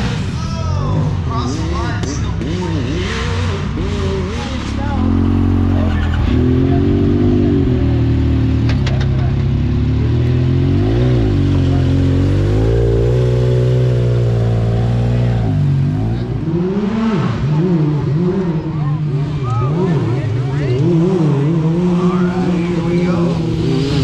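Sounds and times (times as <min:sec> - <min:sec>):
engine revving under load: 0:00.0 - 0:24.0.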